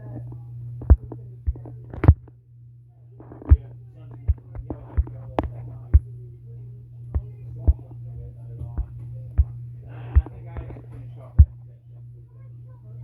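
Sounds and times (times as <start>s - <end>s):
faint voices: 0.0s - 13.0s
steady low hum: 0.0s - 13.0s.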